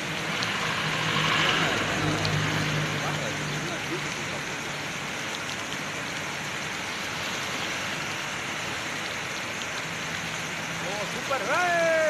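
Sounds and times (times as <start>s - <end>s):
floodwater rushing in a stream: 0.0s - 12.0s.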